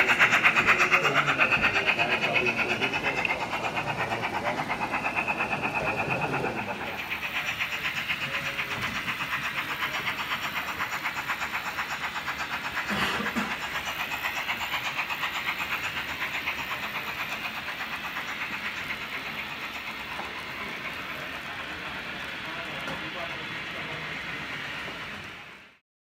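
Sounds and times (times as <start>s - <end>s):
model train steam chuffs: 0.0s - 25.8s.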